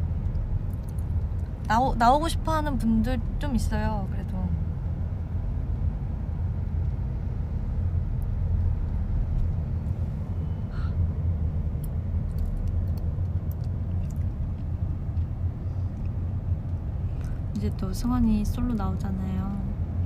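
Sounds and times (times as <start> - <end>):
car rumble from inside cabin: 0.0 - 20.0.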